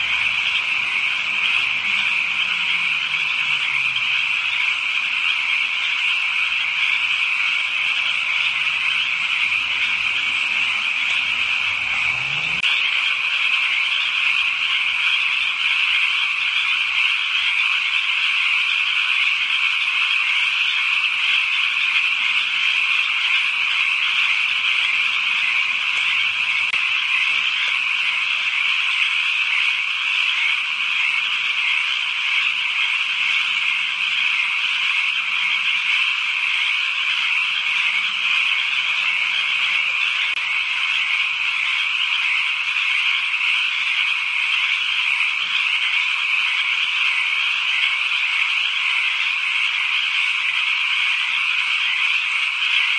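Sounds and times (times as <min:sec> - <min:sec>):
chorus of frogs calling: 0:00.0 - 0:52.9.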